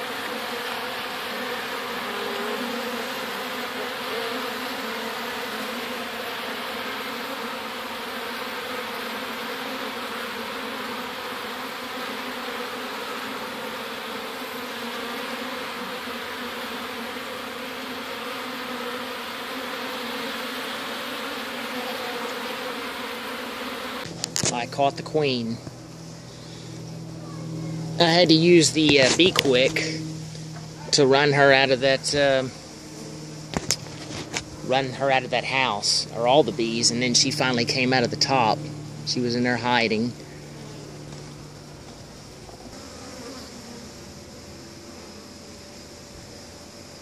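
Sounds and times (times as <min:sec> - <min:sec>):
honeybees buzzing: 0:00.0 - 0:47.0.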